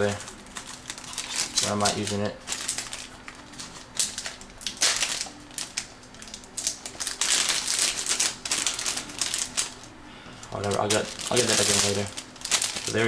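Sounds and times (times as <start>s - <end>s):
packaging rustling and clicking: 0.0s - 13.0s.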